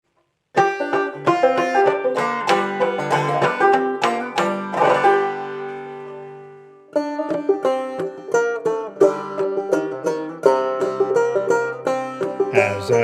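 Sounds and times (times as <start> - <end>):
clawhammer banjo playing: 0.5 - 13.0.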